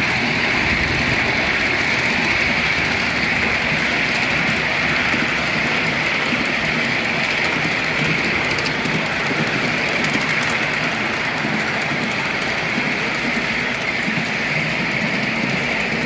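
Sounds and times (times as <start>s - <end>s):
miniature train wheels on rail: 0.0s - 16.0s.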